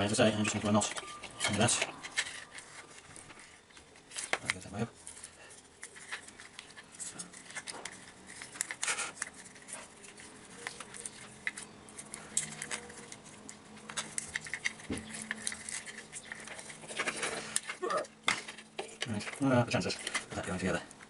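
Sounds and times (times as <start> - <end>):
clicks and rustles of handling parts: 0.0 - 21.0.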